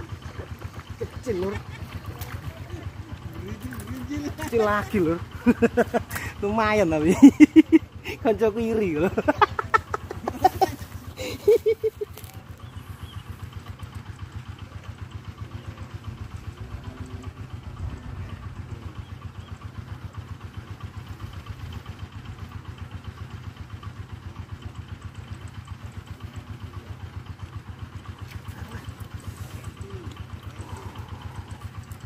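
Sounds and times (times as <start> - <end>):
engine running with rapid pulse: 0.0 - 32.0.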